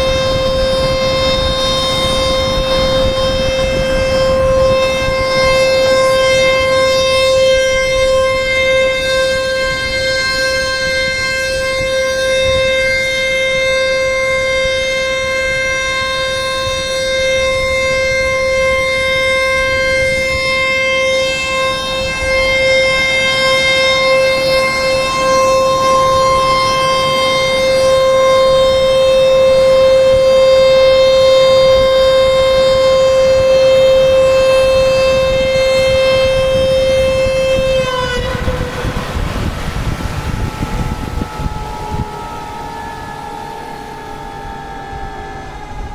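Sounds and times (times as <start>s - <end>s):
warning siren steady tone: 0.0s - 45.9s.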